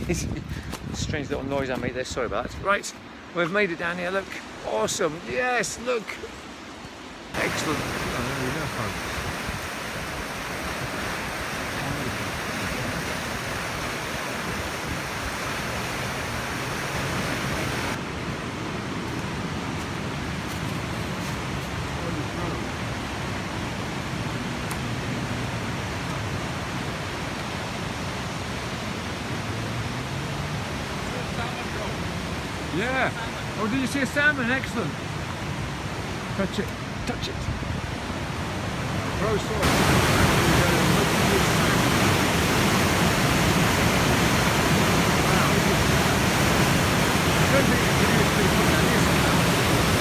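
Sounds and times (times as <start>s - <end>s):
river rapids roaring: 3.1s - 37.1s, 37.7s - 50.0s.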